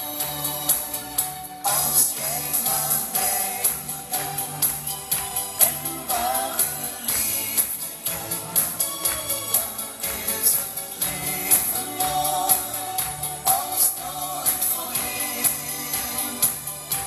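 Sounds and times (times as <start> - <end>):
man singing into a microphone: 0.0 - 17.0
pop backing music with beat: 0.0 - 17.0.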